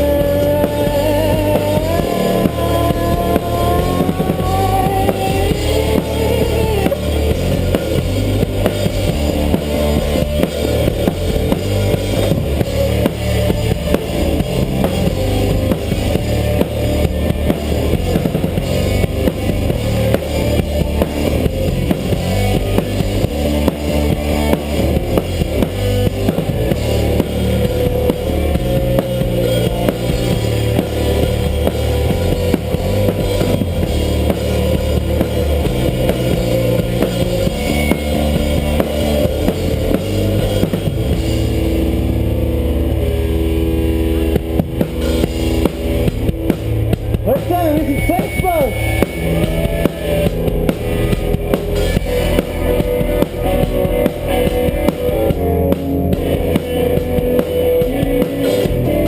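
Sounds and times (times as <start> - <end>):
band playing: 0.0 - 59.0
drum kit beat: 0.0 - 59.0.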